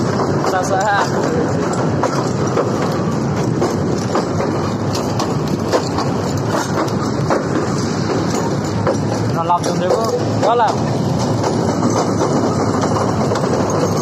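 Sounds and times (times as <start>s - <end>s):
sharp clicks and clatter: 0.0s - 14.0s
train wheels rumbling on rails: 0.0s - 14.0s.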